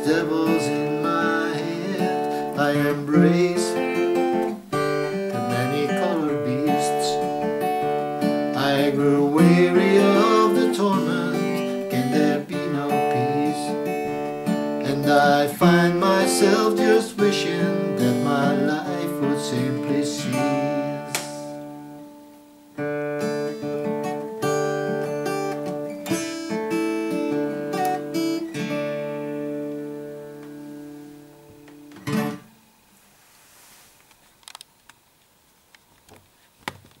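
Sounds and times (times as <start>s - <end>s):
acoustic guitar playing: 0.0s - 33.7s.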